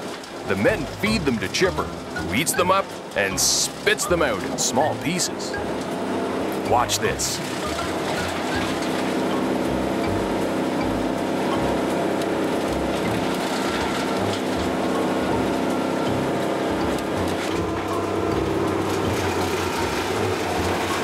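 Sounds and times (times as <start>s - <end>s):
wood chipper engine running: 0.6s - 21.0s.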